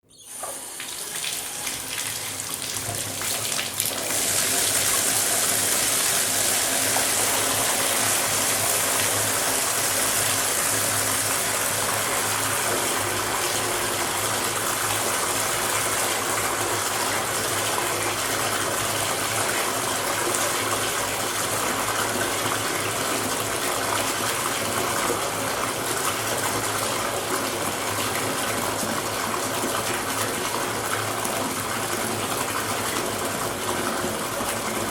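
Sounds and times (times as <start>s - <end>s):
tap water pouring into bathtub: 0.3s - 34.9s.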